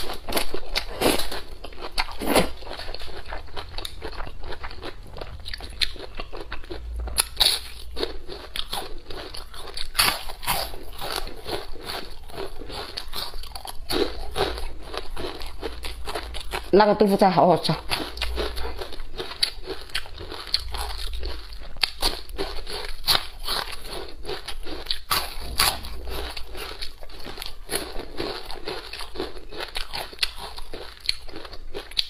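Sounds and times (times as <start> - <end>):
person chewing crunchy food: 0.0 - 16.9, 17.6 - 32.0.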